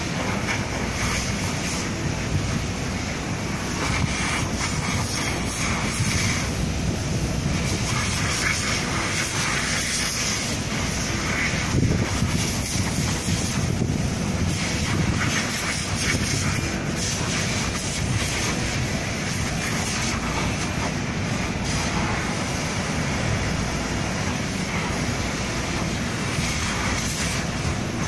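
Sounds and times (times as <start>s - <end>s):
wind buffeting microphone: 1.9s - 28.0s.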